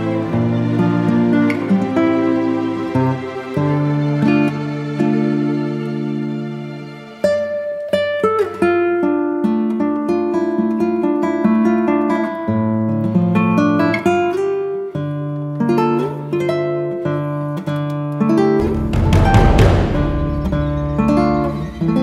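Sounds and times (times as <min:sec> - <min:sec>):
plucked acoustic guitar: 0:00.0 - 0:06.4, 0:07.2 - 0:22.0.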